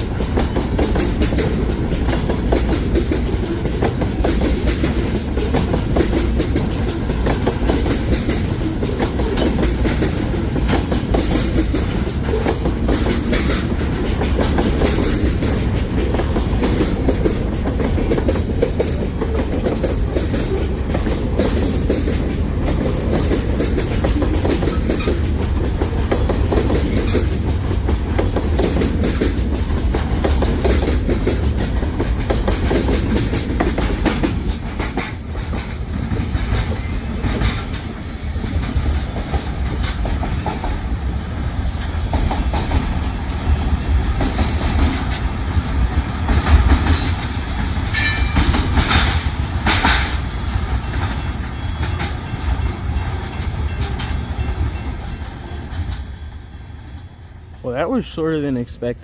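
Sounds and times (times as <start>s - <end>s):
wheels clacking over rail joints: 0.0s - 57.6s
train cars rumbling past: 0.0s - 59.0s.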